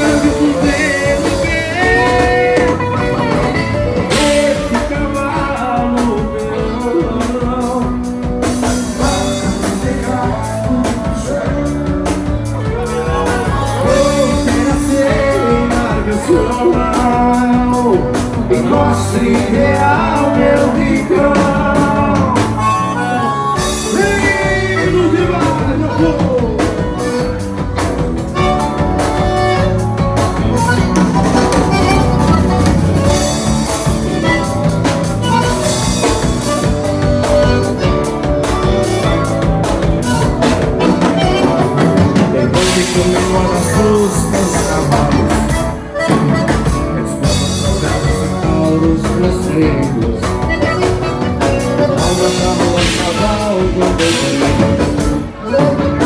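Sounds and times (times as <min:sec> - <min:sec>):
drum kit: 0:00.0 - 0:56.0
electric bass guitar: 0:00.0 - 0:56.0
piano accordion: 0:00.0 - 0:56.0.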